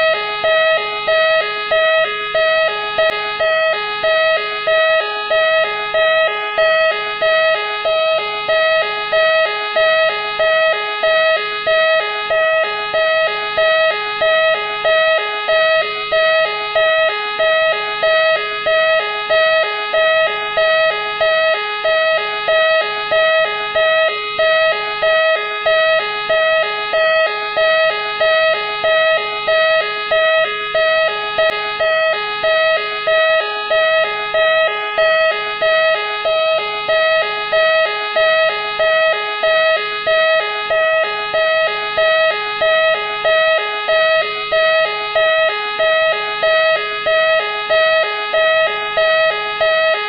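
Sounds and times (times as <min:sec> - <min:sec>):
warbling electronic police siren: 0:00.0 - 0:50.0.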